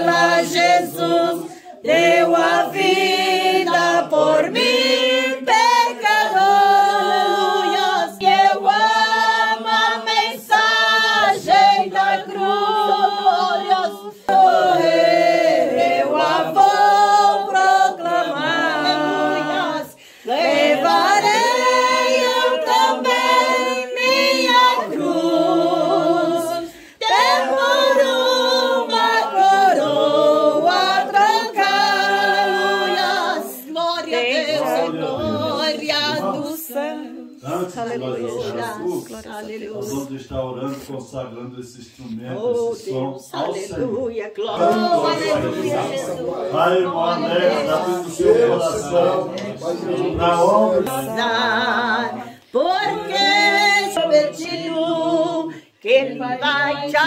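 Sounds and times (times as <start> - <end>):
voices singing a hymn: 0.0 - 57.0.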